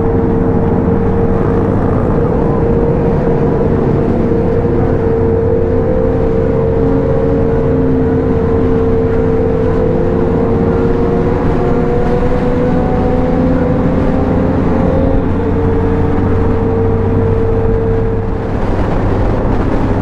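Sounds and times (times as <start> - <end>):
motorcycle engine cruising: 0.0 - 20.0
rushing noise: 0.0 - 20.0
steady whine: 0.0 - 20.0.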